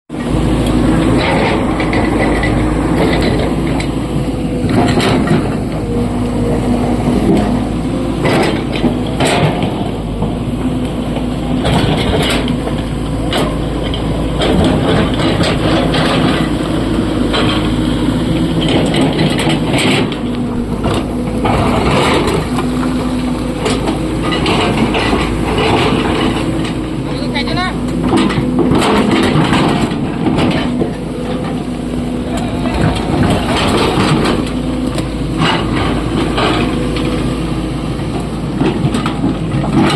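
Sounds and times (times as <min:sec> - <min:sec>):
excavator diesel engine running: 0:00.1 - 0:39.9.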